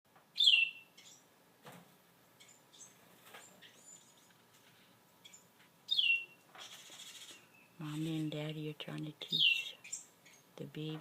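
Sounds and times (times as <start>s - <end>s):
small birds chirping: 0.2s - 1.4s, 2.3s - 11.0s.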